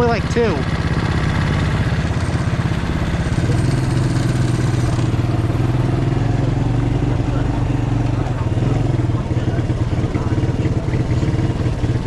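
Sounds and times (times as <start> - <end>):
mini bike engine idling: 0.0 - 12.0.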